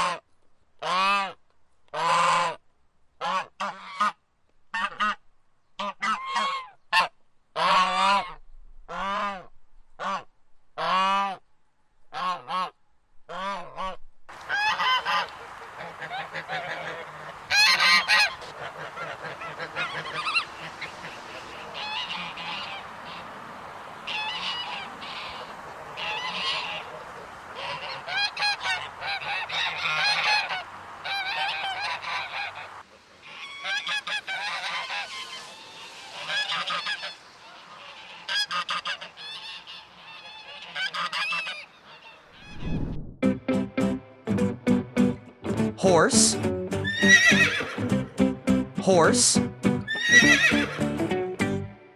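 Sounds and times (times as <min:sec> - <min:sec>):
geese honking: 0:00.0 - 0:00.2, 0:00.8 - 0:01.4, 0:02.0 - 0:02.6, 0:03.2 - 0:05.2, 0:05.8 - 0:09.4, 0:10.0 - 0:11.4, 0:12.1 - 0:42.6, 0:45.8 - 0:47.9, 0:48.8 - 0:51.6.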